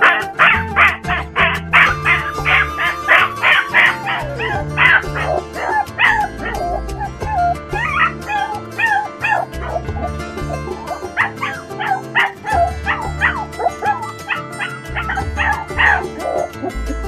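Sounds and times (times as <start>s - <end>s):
dog whining and yipping: 0.0s - 17.0s
music with bass line: 0.0s - 17.0s.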